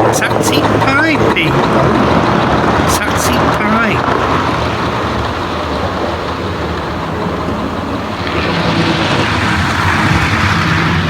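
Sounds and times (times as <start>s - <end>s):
wheels rattling over rails: 0.0s - 11.0s.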